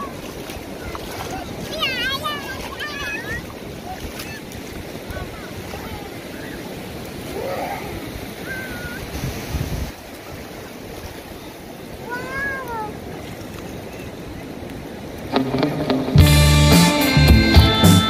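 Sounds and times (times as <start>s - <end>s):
ocean surf washing on beach: 0.0s - 17.1s.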